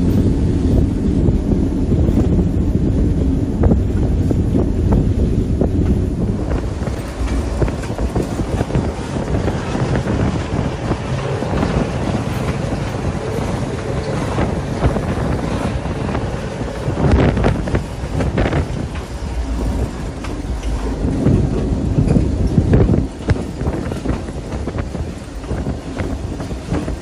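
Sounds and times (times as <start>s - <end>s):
locomotive rumbling on rails: 0.0s - 27.0s
wind buffeting microphone: 0.0s - 27.0s.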